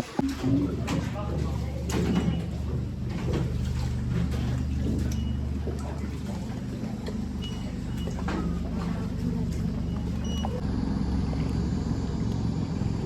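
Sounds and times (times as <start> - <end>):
faint water splashes and knocks: 0.0 - 10.6
boat engine droning: 0.0 - 13.0.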